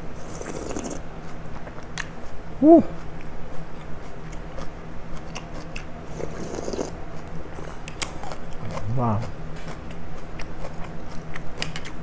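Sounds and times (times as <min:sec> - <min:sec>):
low steady hum: 0:00.0 - 0:12.0
chewing and biting noodles: 0:00.2 - 0:01.0, 0:03.0 - 0:12.0.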